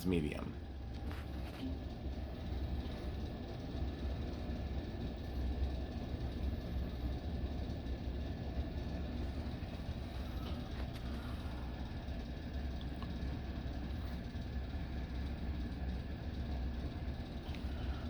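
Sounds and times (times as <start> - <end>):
ceiling fans running: 0.0 - 18.0.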